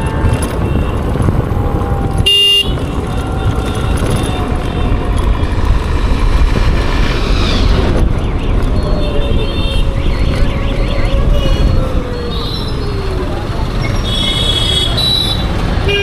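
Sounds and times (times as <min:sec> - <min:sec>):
wind buffeting: 0:00.0 - 0:14.1
road rumble: 0:00.0 - 0:16.0.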